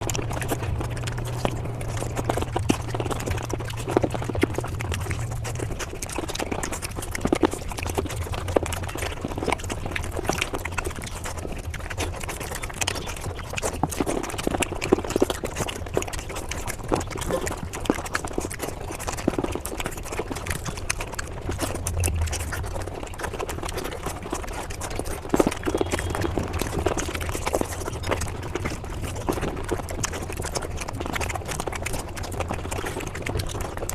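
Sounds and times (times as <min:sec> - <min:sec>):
fast chewing and mouth smacks: 0:00.0 - 0:33.9
low steady hum: 0:00.0 - 0:33.9.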